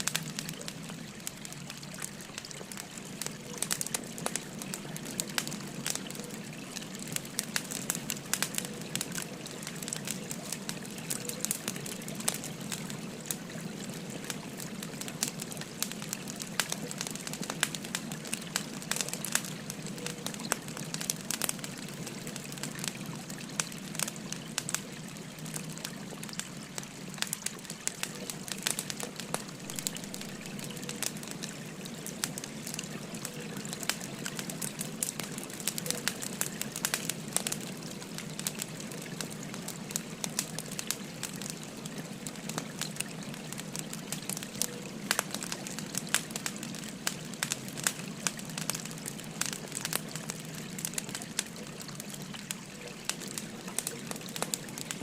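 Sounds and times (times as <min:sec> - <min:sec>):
babbling river: 0:00.0 - 0:55.0
wood fire crackling and popping: 0:00.0 - 0:55.0.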